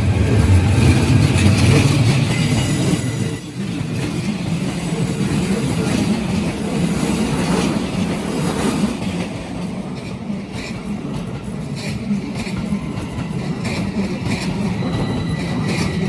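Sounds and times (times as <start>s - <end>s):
electric train wheels on rails: 0.0s - 16.0s.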